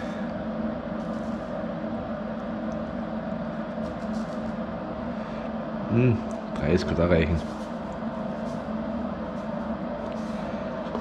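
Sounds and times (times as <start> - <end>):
machine hum with low tones: 0.0 - 11.0.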